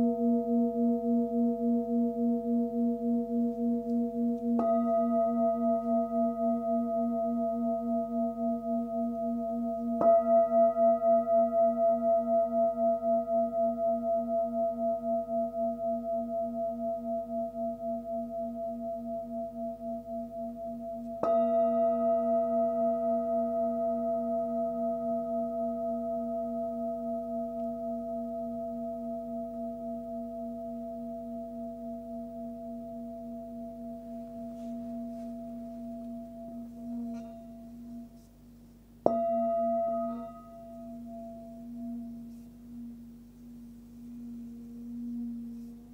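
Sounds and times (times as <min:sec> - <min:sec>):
singing bowl ringing: 0:00.0 - 0:38.2, 0:39.0 - 0:45.9.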